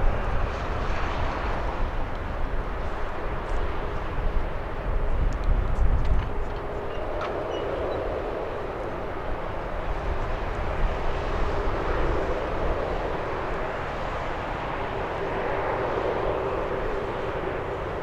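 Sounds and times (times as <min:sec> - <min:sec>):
jet engines during takeoff: 0:00.0 - 0:18.0.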